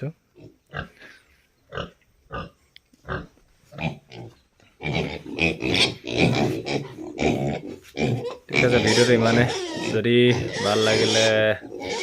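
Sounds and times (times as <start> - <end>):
pigs grunting: 1.7 - 12.0.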